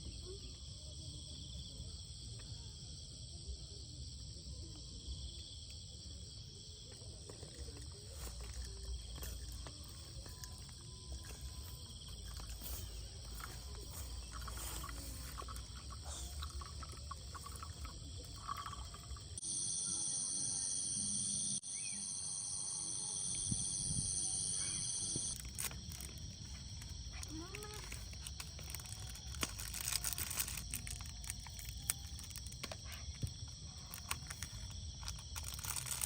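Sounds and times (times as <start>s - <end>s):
insects trilling: 4.4s - 36.0s.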